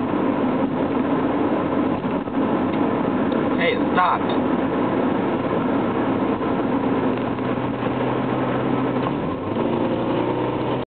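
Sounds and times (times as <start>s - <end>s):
car engine and road noise from inside: 0.0s - 10.9s.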